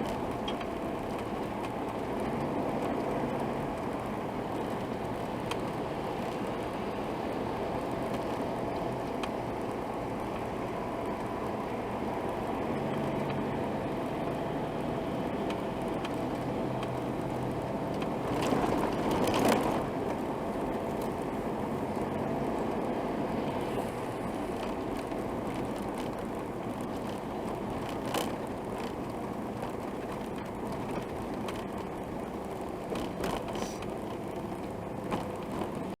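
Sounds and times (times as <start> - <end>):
vehicle and road noise: 0.0 - 36.0.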